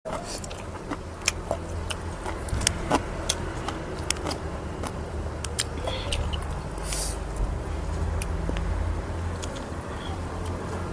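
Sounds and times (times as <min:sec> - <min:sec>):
steady low hum: 0:00.1 - 0:10.9.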